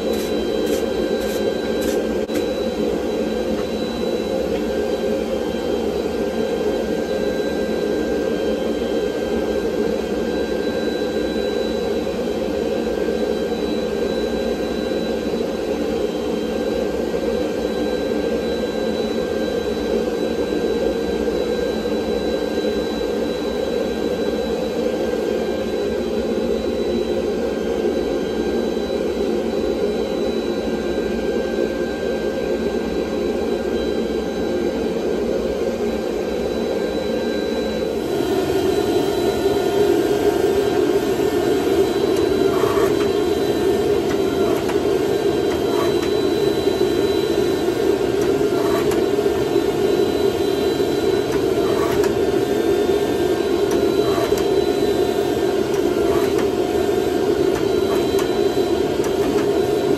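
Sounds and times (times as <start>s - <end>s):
faint high whine: 0.0s - 59.9s.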